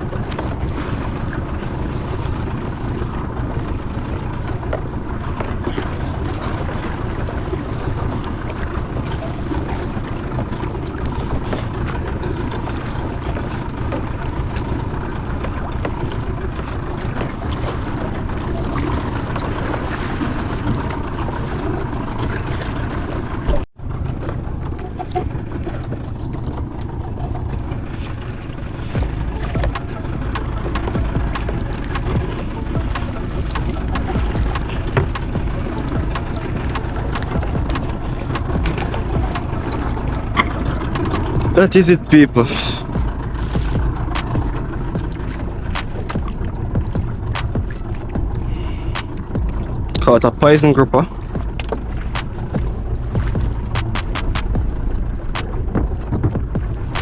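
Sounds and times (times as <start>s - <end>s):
fishing boat engine rumble: 0.0s - 57.0s
wind buffeting microphone: 0.0s - 57.0s.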